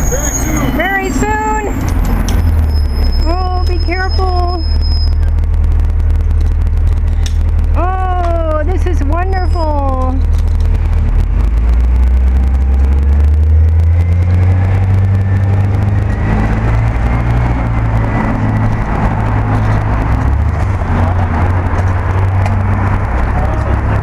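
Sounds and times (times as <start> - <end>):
car engine running: 0.0 - 24.0
street traffic: 0.0 - 24.0.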